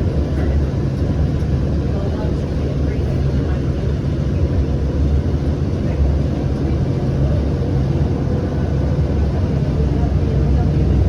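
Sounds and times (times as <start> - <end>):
light rail train rumbling: 0.0 - 11.0.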